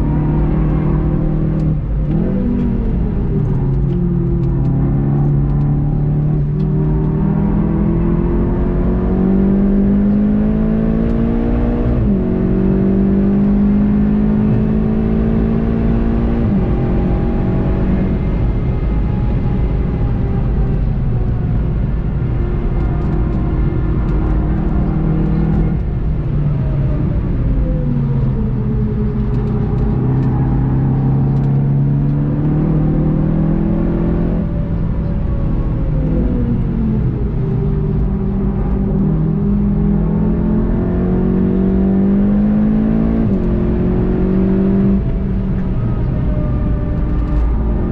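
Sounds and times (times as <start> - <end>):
car engine at full throttle: 0.0 - 47.9.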